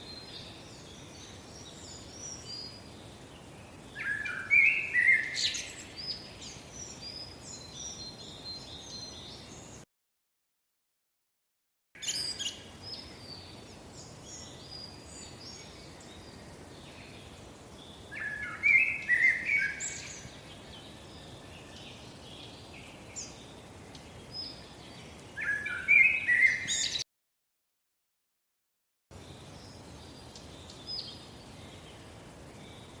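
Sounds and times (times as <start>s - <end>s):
faint steady hiss: 0.0s - 9.8s, 12.0s - 27.0s, 29.1s - 33.0s
small birds chirping: 0.0s - 9.9s, 12.0s - 27.0s, 29.1s - 33.0s.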